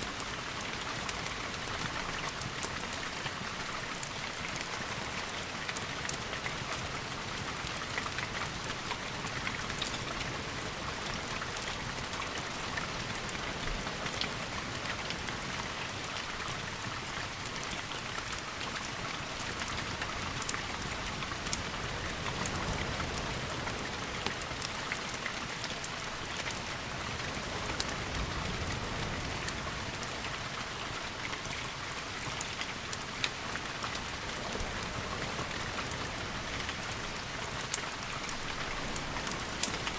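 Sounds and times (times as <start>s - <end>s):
rain with dripping ticks: 0.0s - 39.9s.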